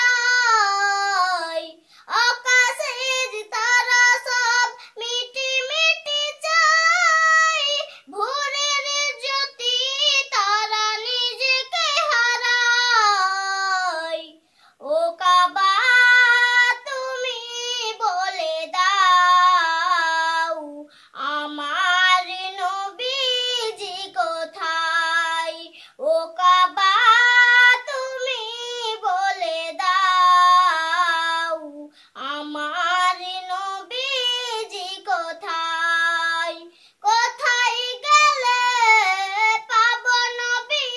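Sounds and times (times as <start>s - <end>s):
girl singing unaccompanied: 0.0s - 40.9s.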